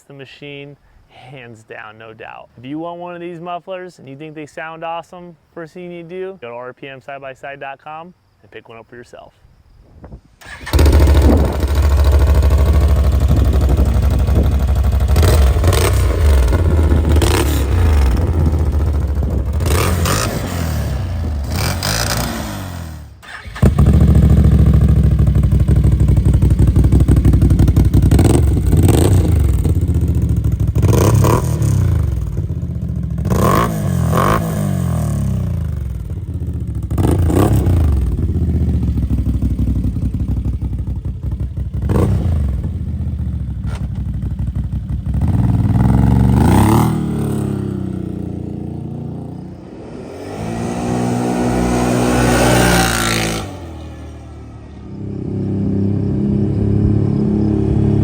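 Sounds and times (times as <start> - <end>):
atv engine revving: 10.4 - 58.0.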